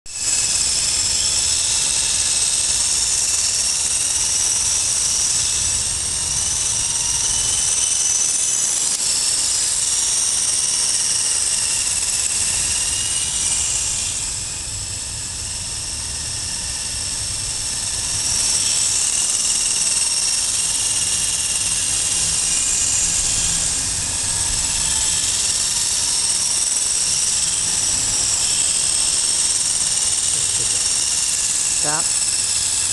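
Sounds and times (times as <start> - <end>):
toy helicopter rotor whine: 0.1 - 32.9.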